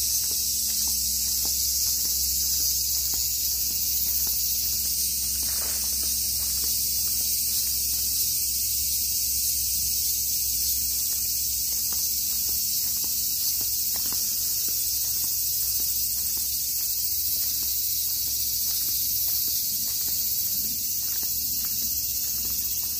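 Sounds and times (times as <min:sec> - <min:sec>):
faint footsteps on pavement: 0:00.0 - 0:08.8, 0:10.2 - 0:22.9
high-pitched insect chorus: 0:00.0 - 0:22.9.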